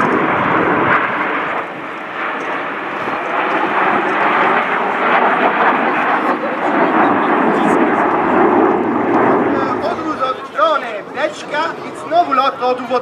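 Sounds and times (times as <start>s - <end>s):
jets passing overhead: 0.0s - 13.0s.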